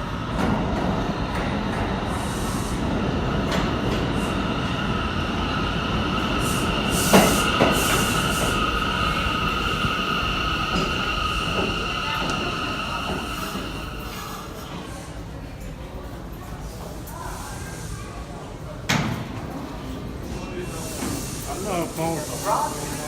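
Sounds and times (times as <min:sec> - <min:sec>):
subway train rumbling on rails: 0:00.0 - 0:23.0.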